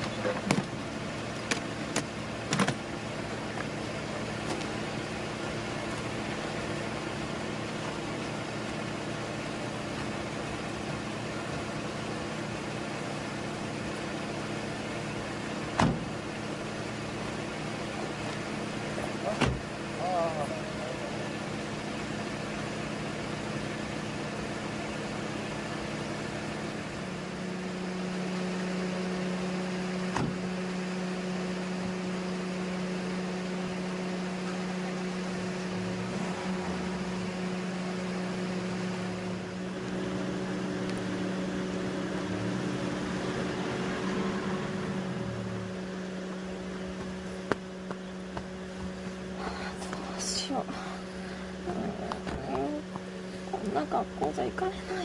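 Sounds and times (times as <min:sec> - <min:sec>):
car engine humming: 0:00.0 - 0:55.0.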